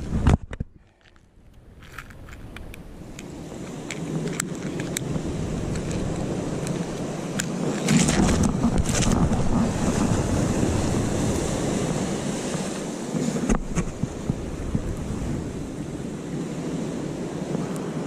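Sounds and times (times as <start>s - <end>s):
wind buffeting microphone: 0.0s - 18.0s
waves washing against rocks: 1.8s - 18.0s.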